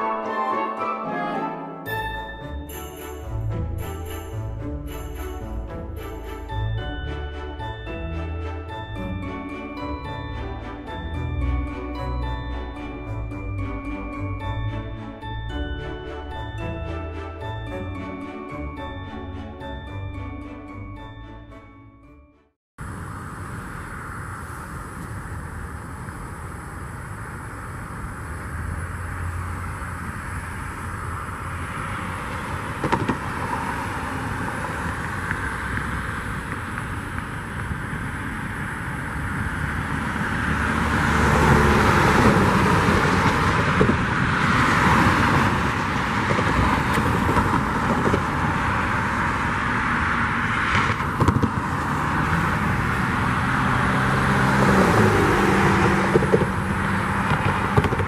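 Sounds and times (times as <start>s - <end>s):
locomotive diesel engine rumbling: 1.9s - 21.7s, 22.8s - 58.0s.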